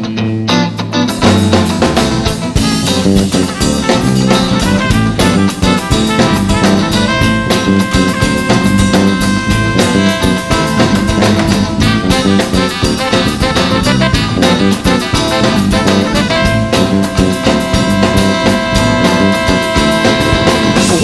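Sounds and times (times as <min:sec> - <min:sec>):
drum kit: 0:00.0 - 0:21.0
guitar: 0:00.0 - 0:21.0
live band playing: 0:00.0 - 0:21.0
brass holding long notes: 0:03.5 - 0:21.0.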